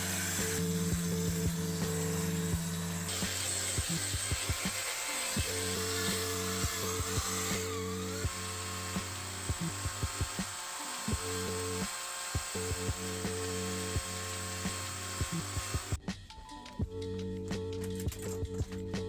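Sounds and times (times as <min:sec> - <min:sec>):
background music with low notes: 0:00.0 - 0:19.0.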